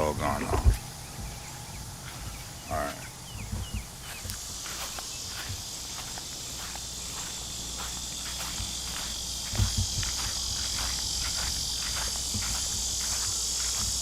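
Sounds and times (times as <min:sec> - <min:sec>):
footsteps crunching: 0:00.0 - 0:14.0
insects chirring: 0:00.0 - 0:14.0.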